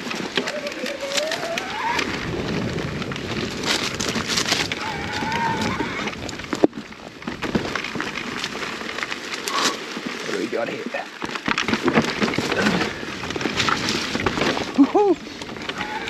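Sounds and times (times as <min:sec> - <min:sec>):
bike tyres crackling on dirt: 0:00.0 - 0:16.0.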